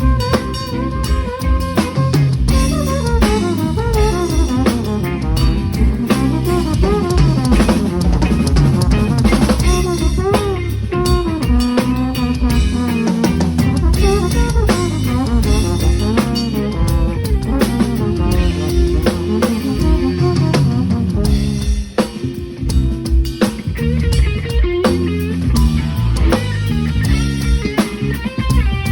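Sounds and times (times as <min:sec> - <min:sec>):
drum kit playing: 0:00.0 - 0:28.9.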